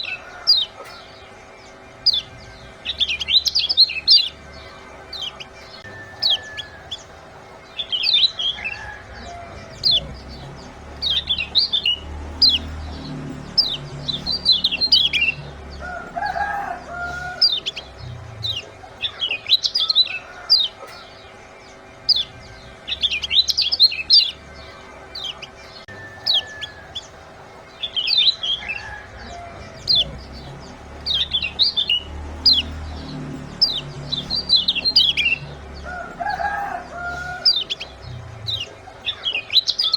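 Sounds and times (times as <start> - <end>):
white-eyes chirping: 0.0 - 39.9.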